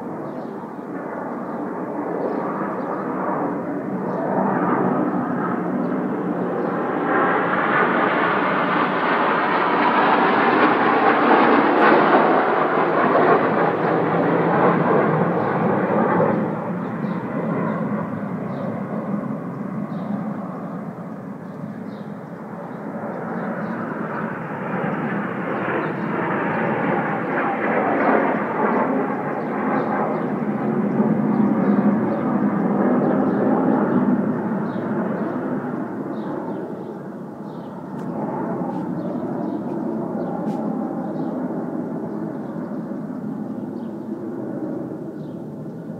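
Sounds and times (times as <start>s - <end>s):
jet aircraft flying overhead: 0.0s - 45.9s.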